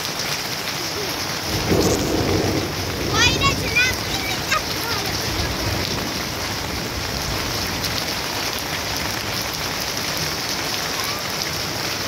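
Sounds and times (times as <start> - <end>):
rain falling on plants: 0.0 - 12.0.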